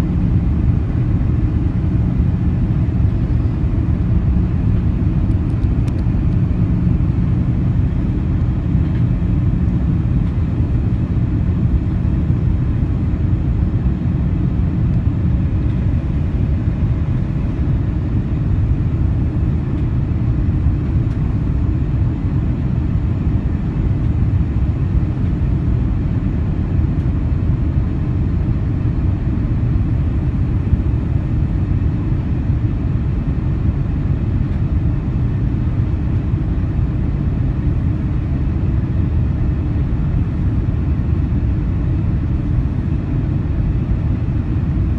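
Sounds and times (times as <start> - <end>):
airflow over fuselage: 0.0 - 44.9
airliner cabin jet engine rumble: 0.0 - 44.9.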